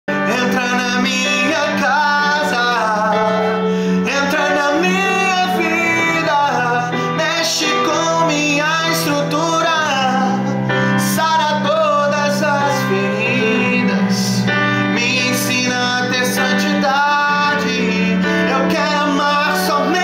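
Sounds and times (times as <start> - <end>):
instrumental backing music: 0.1 - 20.0
man singing slow melody: 0.1 - 20.0.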